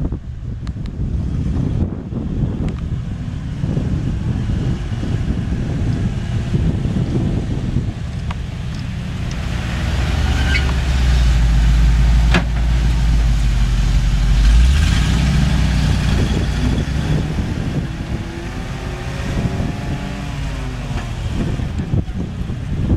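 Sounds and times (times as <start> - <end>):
truck driving past: 2.9 - 22.9.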